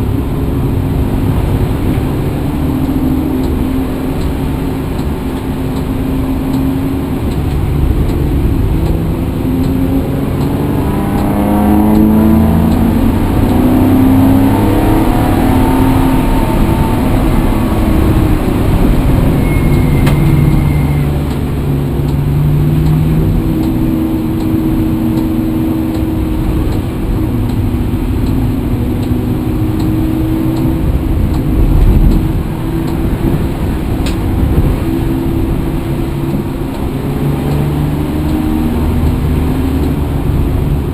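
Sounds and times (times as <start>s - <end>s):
vehicle engine rumbling: 0.0s - 40.9s.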